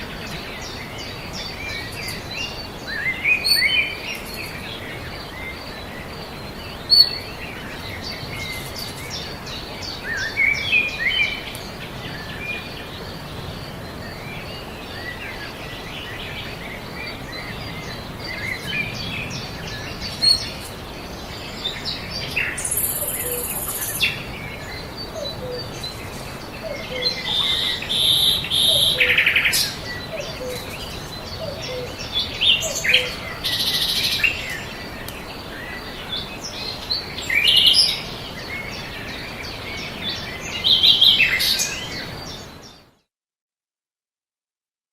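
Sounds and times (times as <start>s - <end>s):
steady background hiss: 0.0s - 42.7s
birds chirping and singing: 0.0s - 42.9s.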